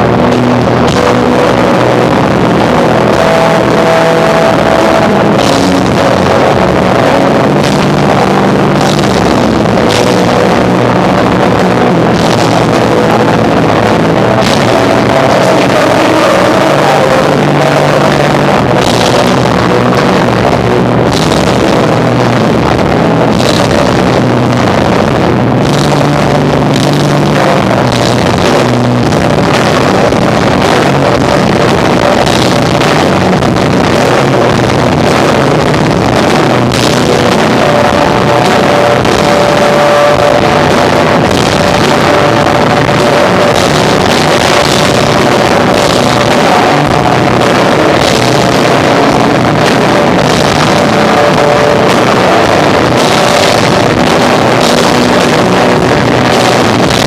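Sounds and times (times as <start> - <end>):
distorted live rock band: 0.0 - 57.0
drum and cymbal hits: 0.0 - 57.0.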